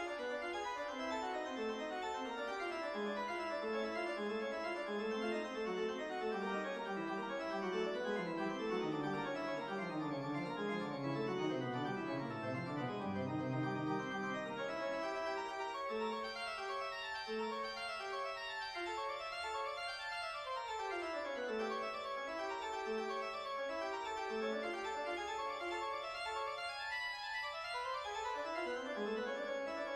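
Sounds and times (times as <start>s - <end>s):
organ music: 0.0s - 29.9s.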